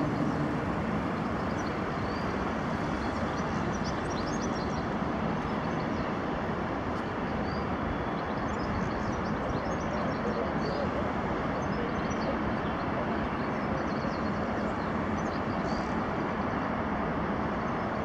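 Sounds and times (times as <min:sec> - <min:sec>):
distant jet airliner rumble: 0:00.0 - 0:18.0.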